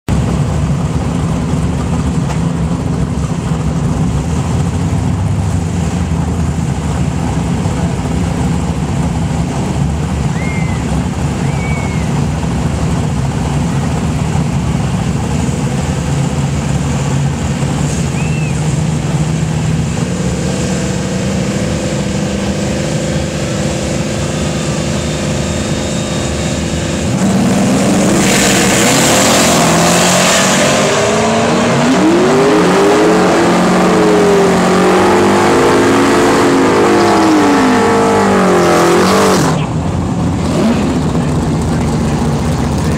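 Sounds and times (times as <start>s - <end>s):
racing car engine revving: 1.4s - 42.9s
loud rushing noise: 4.7s - 42.9s.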